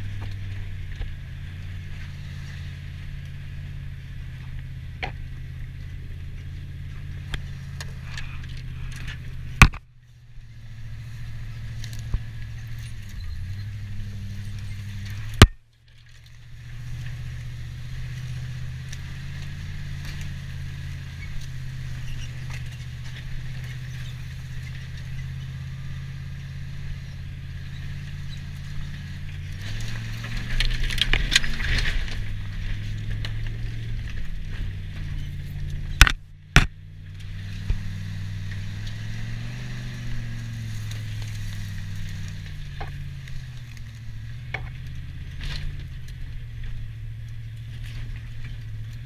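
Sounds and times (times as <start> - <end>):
truck engine running: 0.0 - 49.0.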